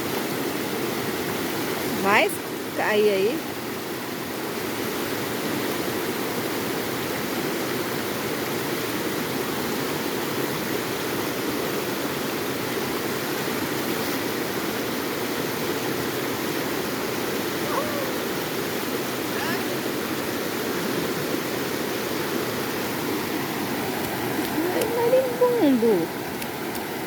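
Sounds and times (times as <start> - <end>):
waterfall rushing water: 0.0 - 27.0.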